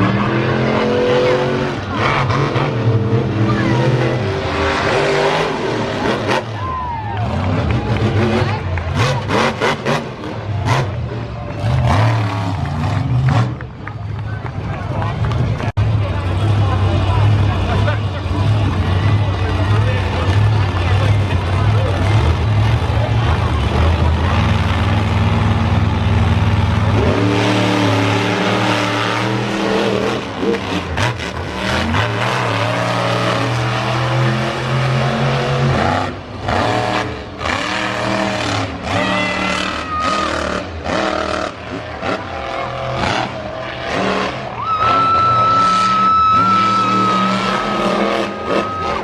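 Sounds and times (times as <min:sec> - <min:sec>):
truck engine revving: 0:00.0 - 0:49.0.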